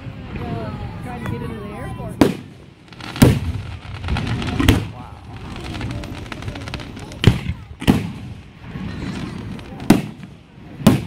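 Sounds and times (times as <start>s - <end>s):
fireworks crackling: 0.0s - 11.0s
fireworks booming: 0.2s - 11.0s.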